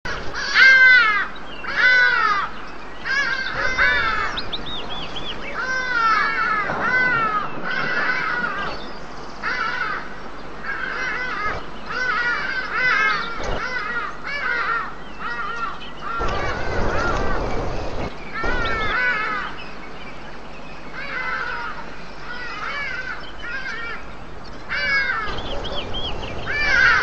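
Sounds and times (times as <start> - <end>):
birds calling: 0.0 - 27.0.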